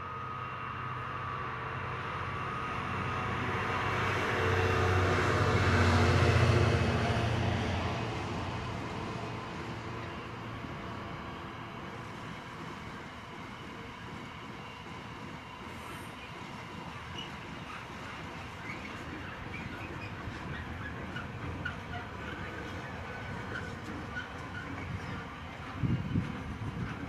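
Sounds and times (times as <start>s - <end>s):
locomotive hum: 0.0s - 27.0s
train wagons rumbling past: 1.1s - 27.0s.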